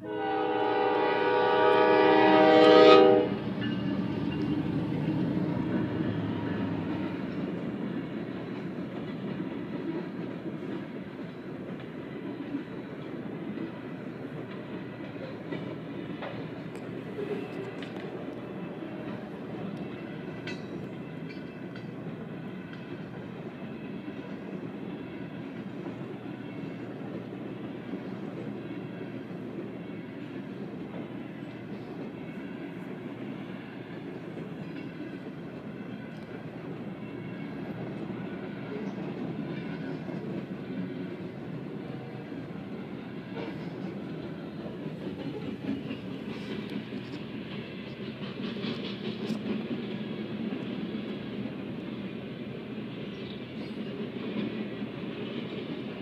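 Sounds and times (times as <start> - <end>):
train cars rolling on rails: 0.0 - 56.0.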